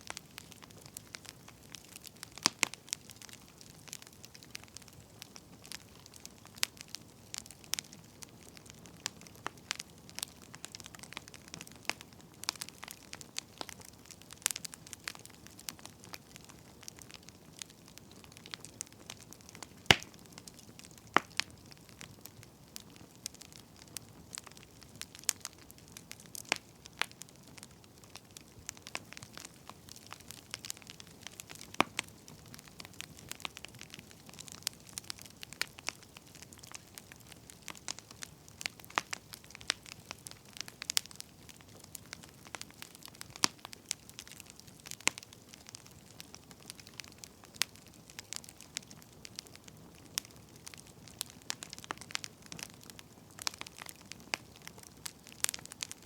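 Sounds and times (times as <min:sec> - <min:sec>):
faint steady hiss: 0:00.0 - 0:56.0
wood fire crackling: 0:00.0 - 0:56.0.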